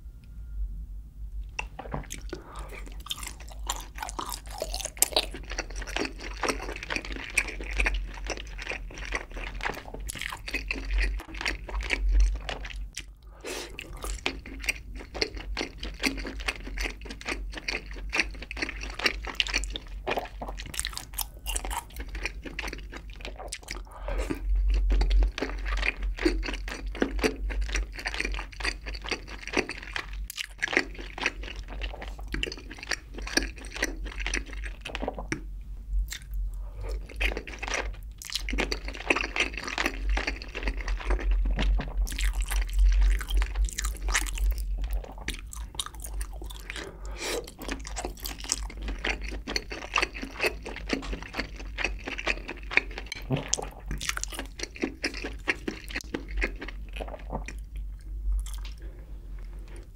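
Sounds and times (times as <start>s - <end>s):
close chewing crunches: 1.8s - 35.4s, 36.1s - 59.9s.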